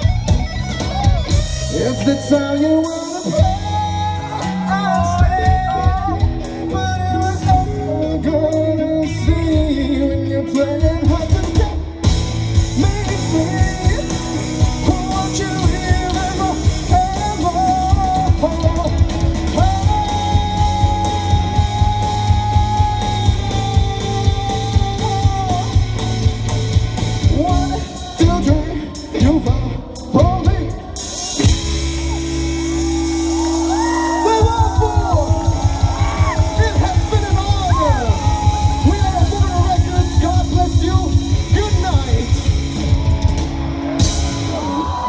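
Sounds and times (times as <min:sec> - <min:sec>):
rock band playing live: 0:00.0 - 0:45.0
person singing lead vocal: 0:01.7 - 0:12.0, 0:12.7 - 0:26.4, 0:27.2 - 0:31.5, 0:33.6 - 0:42.4.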